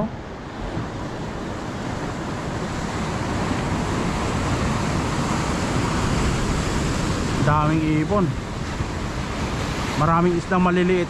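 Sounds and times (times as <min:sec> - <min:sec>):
ocean surf washing ashore: 0:00.0 - 0:11.0
wind on microphone: 0:00.0 - 0:11.0.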